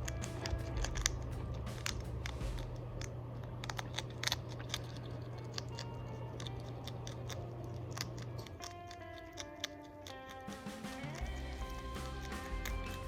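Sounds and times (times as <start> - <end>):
steady low hum: 0.0 - 9.1, 11.0 - 13.0
hedgehog chewing crunchily: 0.0 - 13.0.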